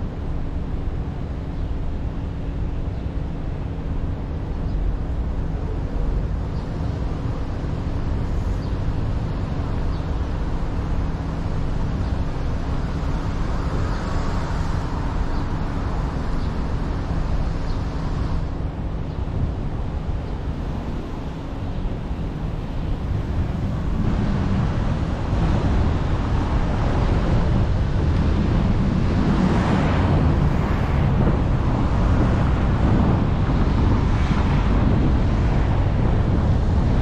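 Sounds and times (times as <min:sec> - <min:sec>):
car road and engine noise: 0:00.0 - 0:37.0.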